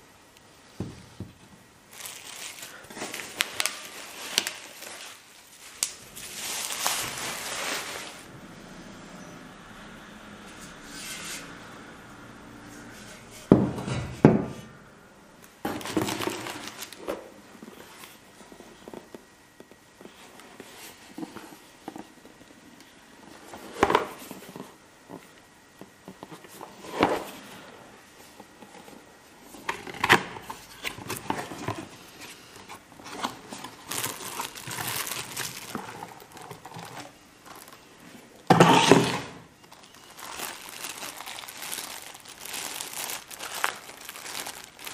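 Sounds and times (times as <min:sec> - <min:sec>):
cardboard and plastic rustling: 0:00.8 - 0:08.3, 0:15.6 - 0:44.9.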